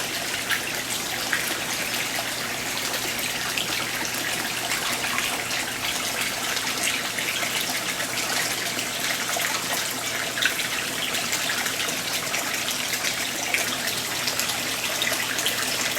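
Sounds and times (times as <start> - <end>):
water running and splashing: 0.0 - 15.9.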